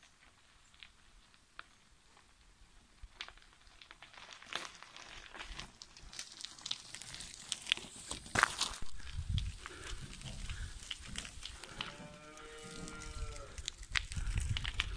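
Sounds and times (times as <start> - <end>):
bike tyres crunching on dirt: 0.0 - 14.9.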